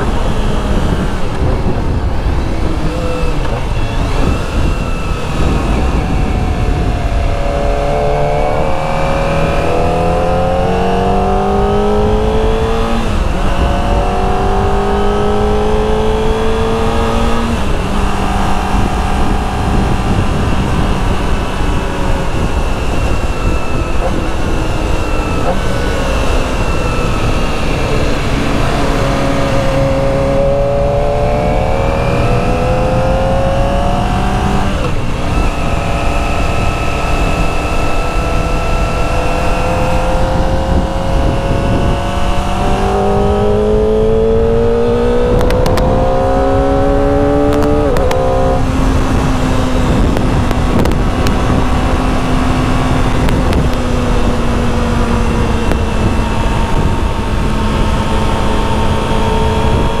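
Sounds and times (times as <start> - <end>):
motorcycle engine revving: 0.0 - 60.0
wind and road noise: 0.0 - 60.0.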